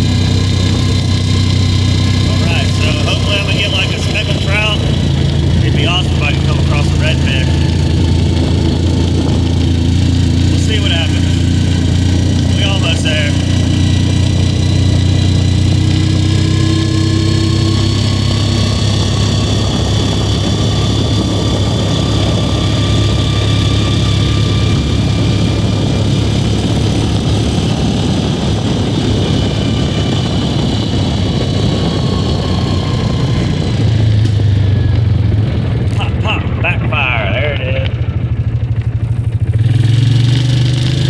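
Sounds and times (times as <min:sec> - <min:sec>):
small engine humming: 0:00.0 - 0:41.0.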